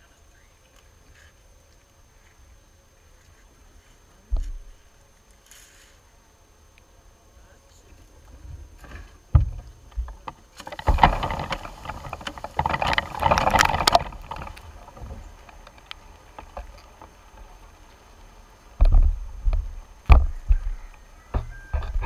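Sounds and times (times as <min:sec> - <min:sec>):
bees rustling and clattering: 0:00.0 - 0:22.0.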